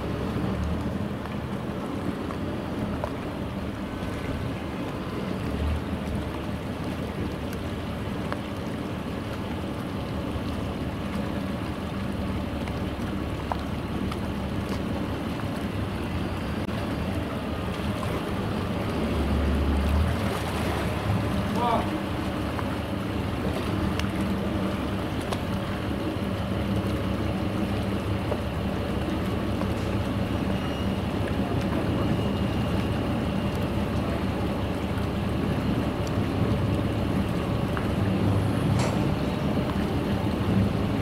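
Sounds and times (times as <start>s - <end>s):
boat engine idling: 0.0s - 41.0s.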